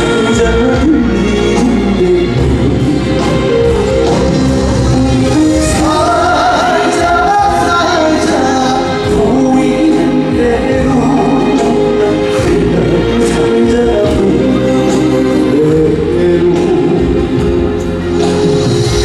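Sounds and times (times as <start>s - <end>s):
live band with singing: 0.0s - 19.0s.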